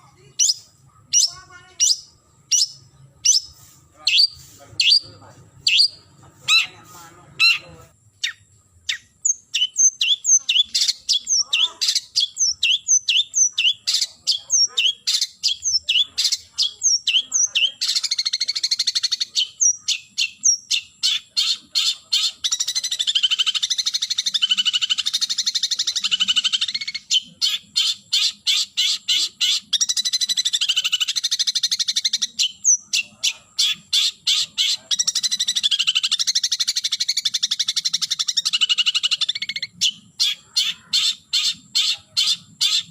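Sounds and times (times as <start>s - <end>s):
shrike singing: 0.0s - 42.9s.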